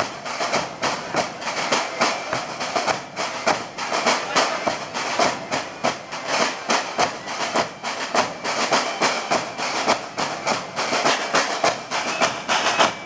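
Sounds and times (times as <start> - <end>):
bass drums marching rhythm: 0.0 - 13.0.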